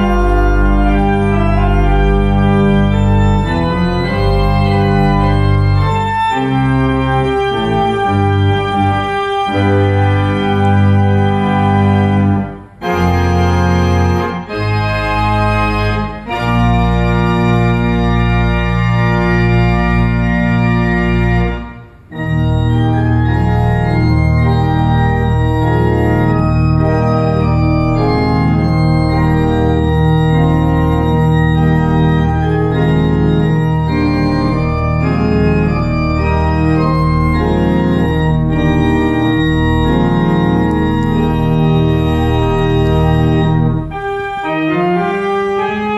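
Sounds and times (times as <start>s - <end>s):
pipe organ chords: 0.0s - 45.9s.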